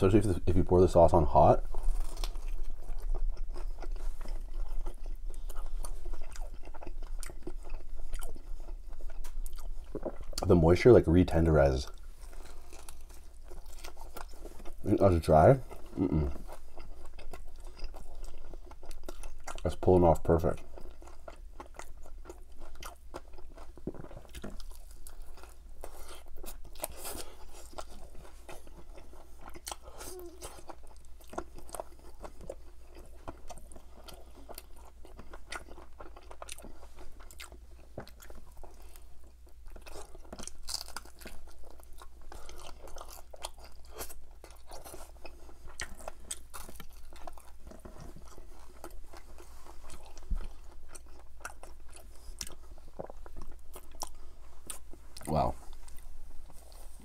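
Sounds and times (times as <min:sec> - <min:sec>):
chewing crispy chicken: 0:00.0 - 0:57.0.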